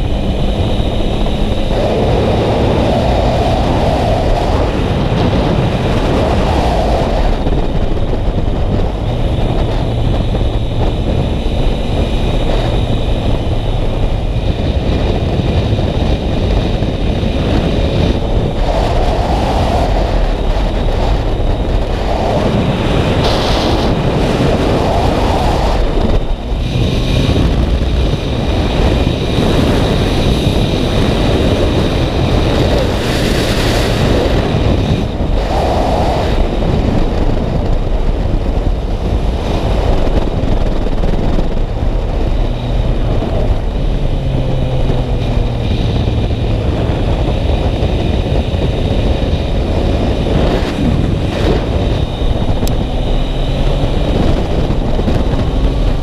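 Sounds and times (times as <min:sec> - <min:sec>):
motorcycle engine running: 0:00.0 - 0:19.3, 0:19.9 - 0:56.0
wind buffeting microphone: 0:00.0 - 0:56.0.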